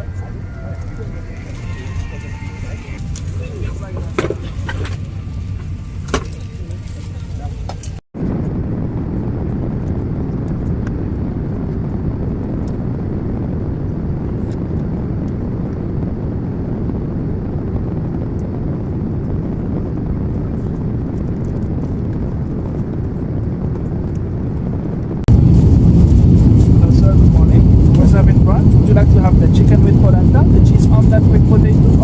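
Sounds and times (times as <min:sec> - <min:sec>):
airliner cabin drone: 0:00.0 - 0:32.0.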